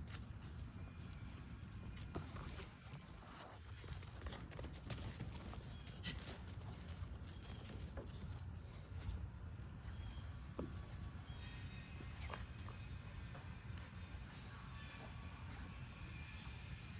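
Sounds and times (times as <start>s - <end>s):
insect chorus drone: 0.0s - 16.9s.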